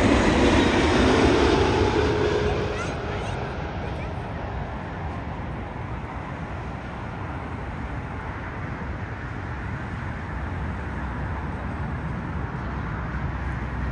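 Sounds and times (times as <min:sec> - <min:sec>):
jet engine roar: 0:00.0 - 0:13.9.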